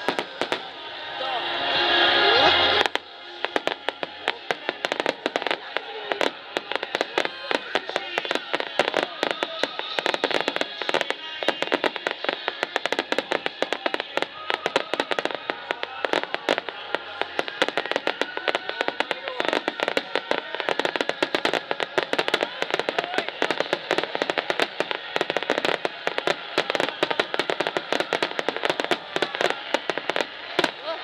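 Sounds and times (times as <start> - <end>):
fireworks bursts and crackling: 0.0 - 31.0
music playing: 0.0 - 31.0.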